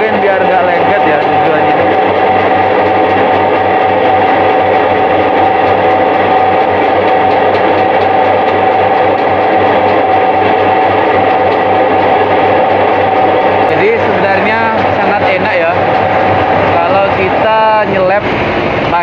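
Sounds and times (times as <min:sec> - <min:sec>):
high-pitched whine: 0:00.0 - 0:19.0
machine motor hum: 0:00.0 - 0:19.0.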